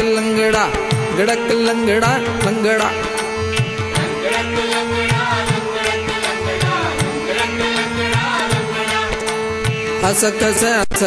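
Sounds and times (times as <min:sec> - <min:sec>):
person singing devotional melody: 0:00.0 - 0:11.0
drum beat: 0:00.5 - 0:11.0
steady drone: 0:00.6 - 0:10.6.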